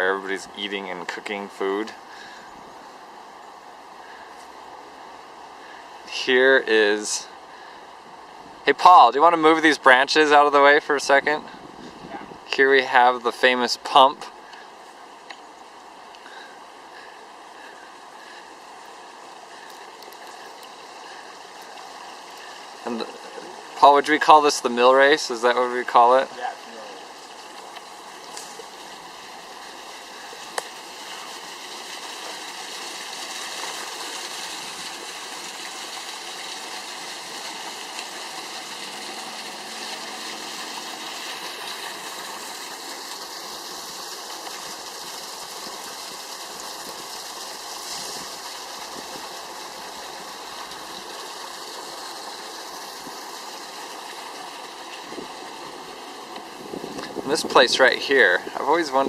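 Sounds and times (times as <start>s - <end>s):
water rushing down a channel: 5.0s - 59.0s.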